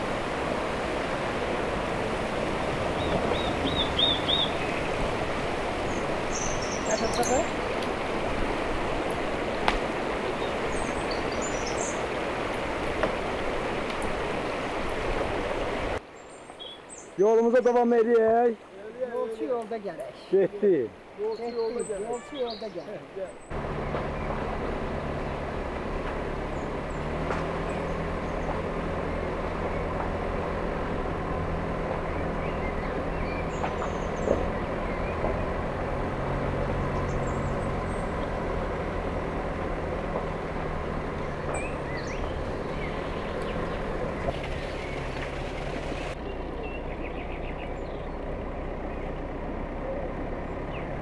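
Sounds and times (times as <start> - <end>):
car engine hum: 0.0 - 16.1, 23.3 - 51.0
road noise: 0.0 - 51.0.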